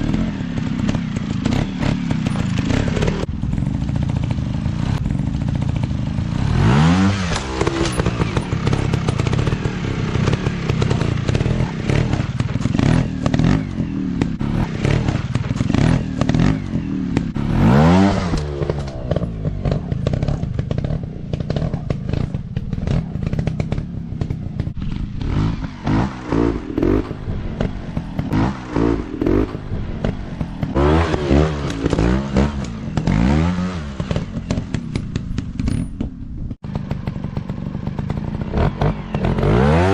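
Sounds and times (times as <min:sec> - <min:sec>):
dirt bike engine revving: 0:00.0 - 0:35.9, 0:36.6 - 0:39.9.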